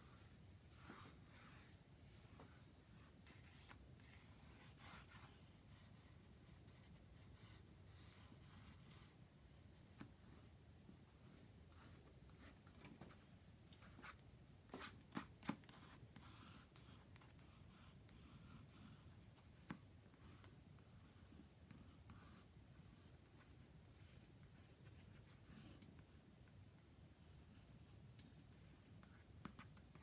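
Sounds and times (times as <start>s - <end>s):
pencil scratching on paper: 0.0s - 9.2s, 9.8s - 30.0s.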